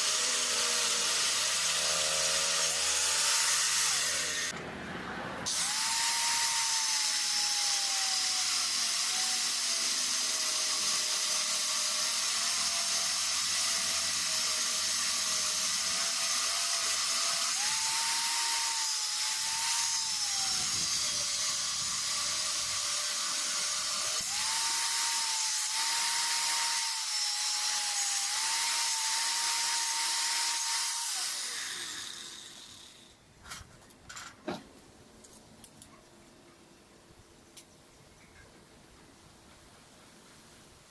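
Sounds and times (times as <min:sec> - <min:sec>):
angle grinder grinding steel: 0:00.0 - 0:04.7, 0:05.4 - 0:34.3.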